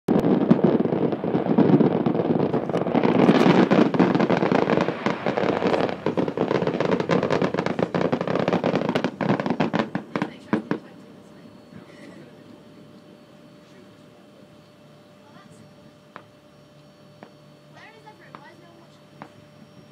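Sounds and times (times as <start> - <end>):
fireworks bangs and crackles: 0.1 - 19.9.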